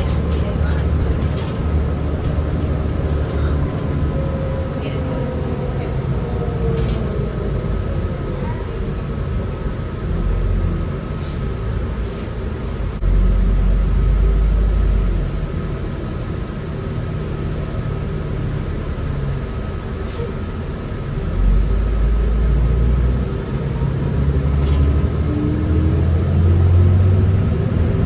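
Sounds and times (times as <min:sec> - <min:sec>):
bus engine rumble: 0:00.0 - 0:28.0.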